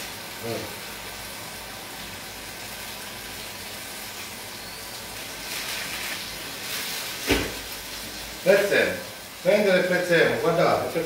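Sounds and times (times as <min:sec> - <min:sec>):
fish sizzling in a frying pan: 0:00.0 - 0:11.0.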